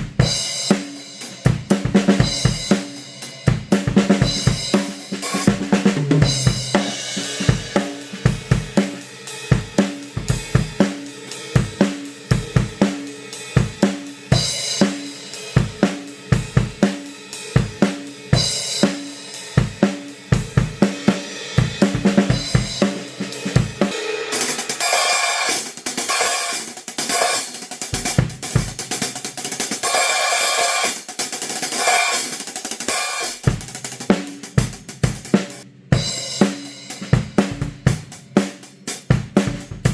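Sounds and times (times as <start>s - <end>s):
crash and ride cymbals: 0.0s - 39.9s
drum kit groove: 0.0s - 39.9s.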